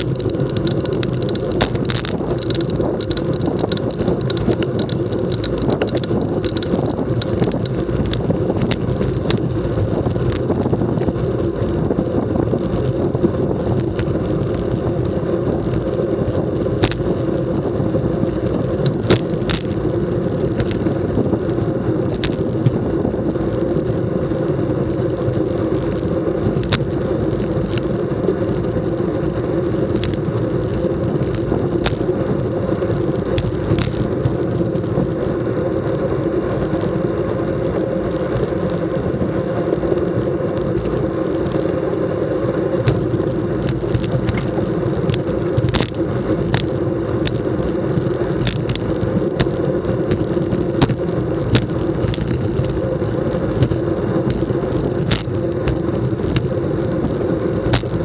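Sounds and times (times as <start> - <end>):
bicycle clicks and rattles: 0.0 - 58.0
bicycle tyre noise: 0.0 - 58.0
wind rush on microphone: 0.0 - 58.0.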